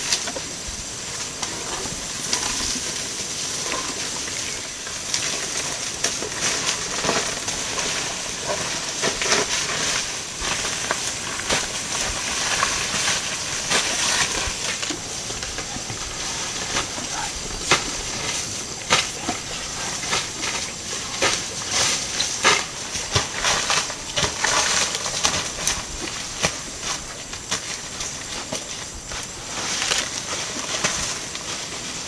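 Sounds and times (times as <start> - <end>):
steady high-pitched hiss: 0.0 - 32.0
dry litter rustling underfoot: 0.1 - 32.0
plant stalks snapping and crunching: 3.6 - 31.6.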